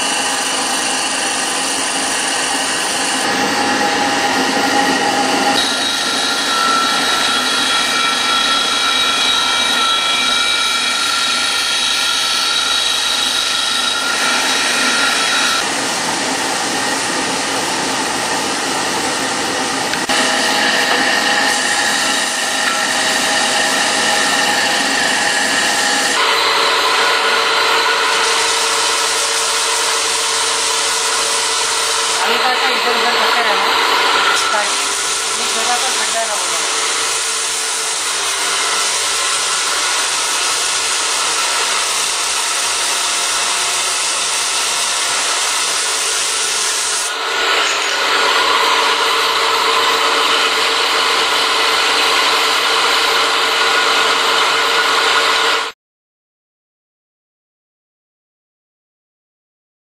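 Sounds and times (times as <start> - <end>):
electric sander on wood: 0.0 - 55.7.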